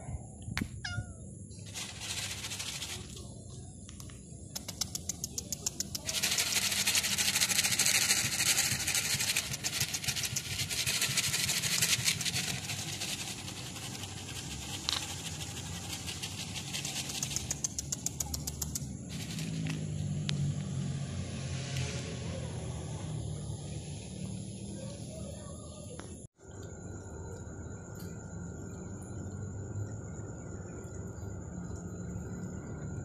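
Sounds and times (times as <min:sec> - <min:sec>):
night insects chirping: 0:00.0 - 0:33.0.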